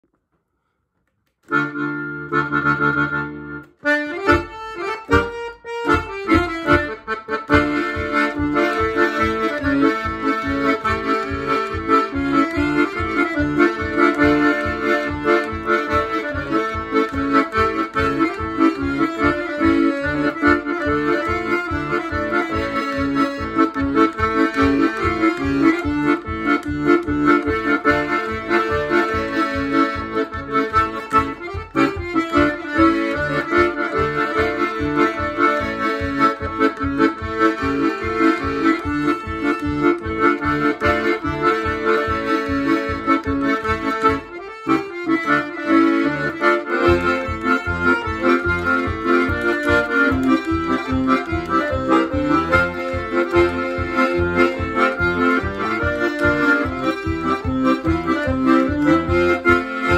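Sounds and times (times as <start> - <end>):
accordion playing a brisk tune: 1.4 - 59.9.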